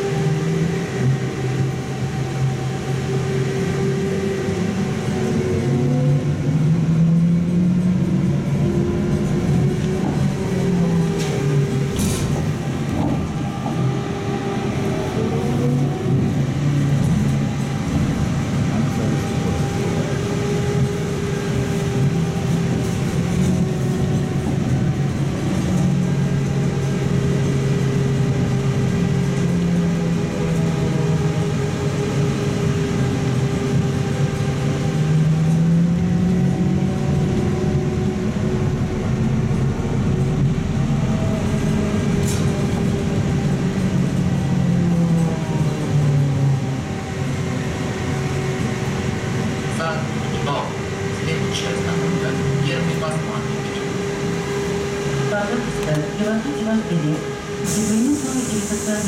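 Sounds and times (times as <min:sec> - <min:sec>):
road rumble: 0:00.0 - 0:59.0.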